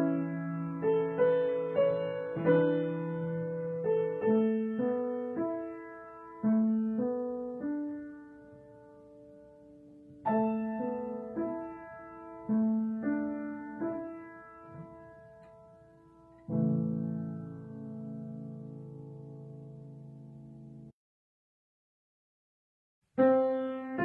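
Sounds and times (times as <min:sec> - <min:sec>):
slow piano melody: 0:00.0 - 0:21.0, 0:23.2 - 0:24.0.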